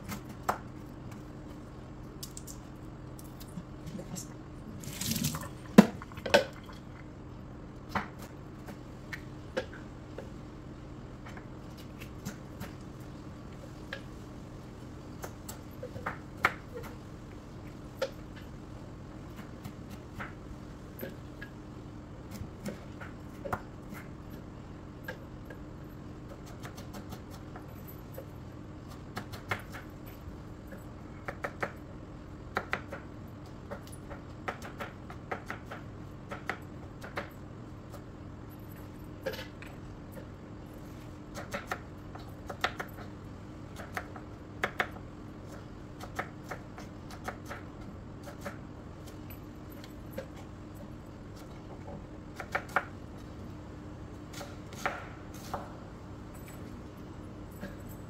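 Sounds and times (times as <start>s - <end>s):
faint hum: 0.0s - 58.0s.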